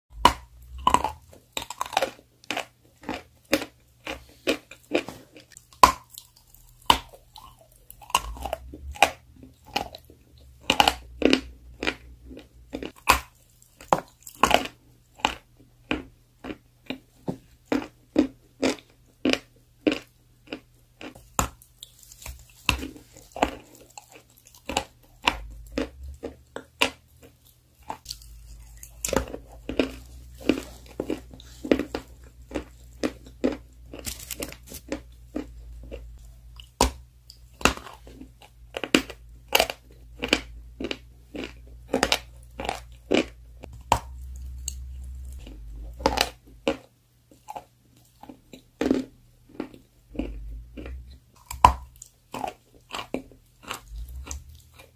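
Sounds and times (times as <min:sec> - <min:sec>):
crunching and chewing chalk: 0:00.1 - 0:54.9.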